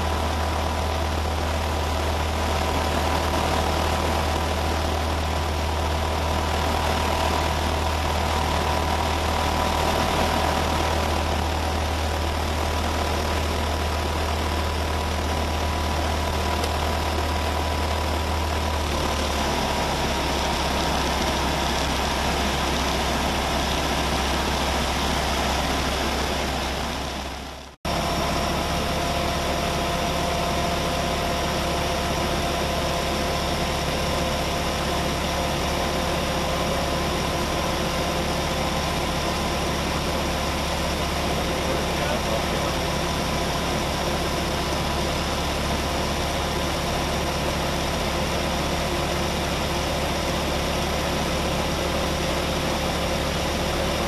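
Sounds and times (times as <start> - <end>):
glider engine and propeller: 0.0 - 54.0.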